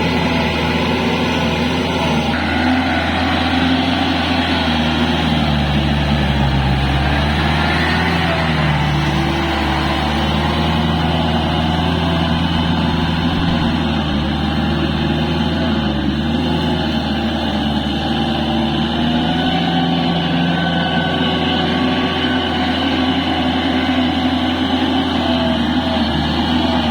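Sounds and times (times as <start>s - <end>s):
tractor diesel engine under load: 0.0s - 26.9s.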